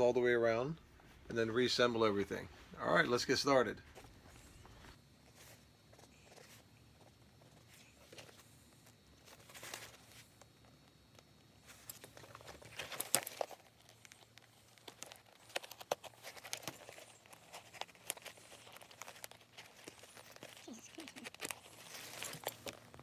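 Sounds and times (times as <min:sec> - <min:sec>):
leather rustling and crinkling: 0:03.8 - 0:23.0.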